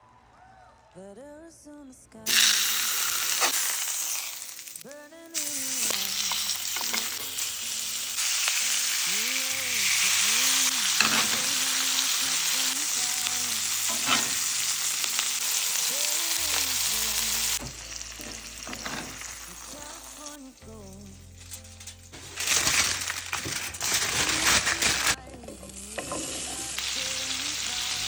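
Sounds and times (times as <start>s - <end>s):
food sizzling in frying pan: 2.3s - 20.4s, 22.1s - 28.0s
background music with singing: 4.8s - 28.0s.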